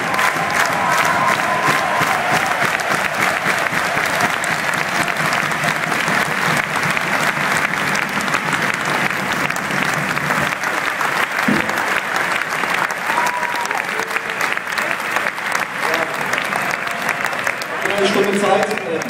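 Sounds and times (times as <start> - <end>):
stadium crowd applauding: 0.0 - 19.0.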